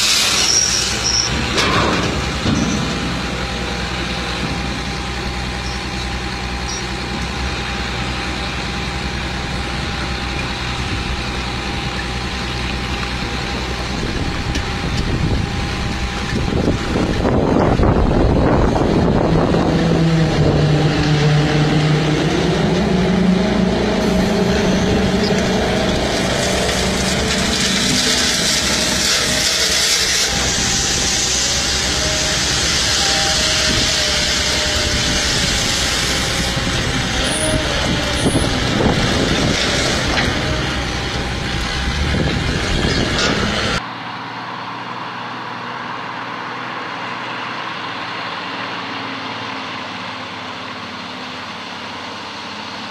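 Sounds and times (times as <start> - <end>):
heavy truck engine under load: 0.0 - 52.9
road noise: 0.0 - 52.9
wind: 0.0 - 52.9.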